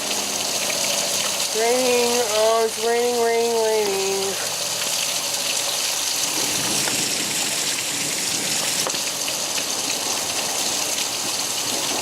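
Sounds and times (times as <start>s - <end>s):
heavy rain pouring: 0.0s - 12.0s
raindrops ticking: 0.0s - 12.0s.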